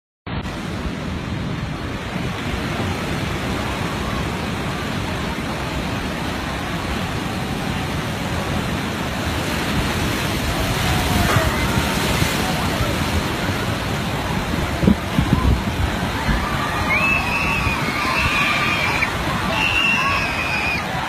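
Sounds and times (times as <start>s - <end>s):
surf breaking: 0.4s - 21.0s
wind buffeting microphone: 0.4s - 21.0s.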